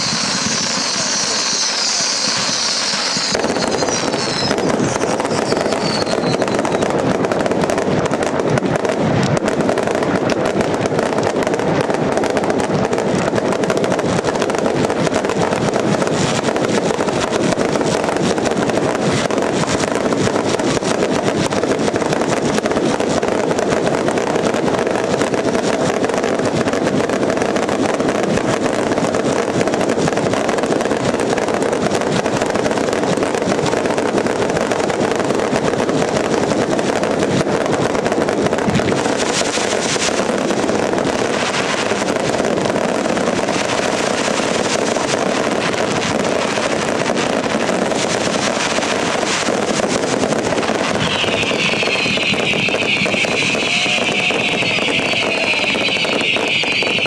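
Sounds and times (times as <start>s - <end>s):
fireworks crackling and banging: 0.0s - 57.0s
fireworks whistling: 0.0s - 57.0s.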